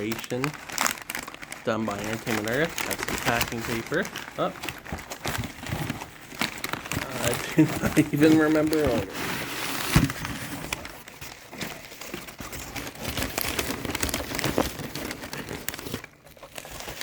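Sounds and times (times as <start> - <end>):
packing paper rustling: 0.0 - 17.0.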